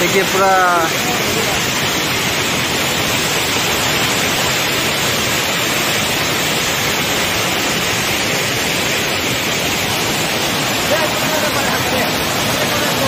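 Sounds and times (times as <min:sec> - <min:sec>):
water rushing down rocky stream: 0:00.0 - 0:13.0.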